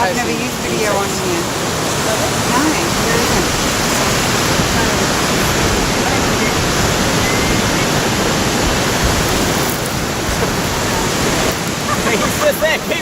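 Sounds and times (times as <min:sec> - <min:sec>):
surf rushing: 0:00.0 - 0:13.0
wind: 0:00.0 - 0:13.0.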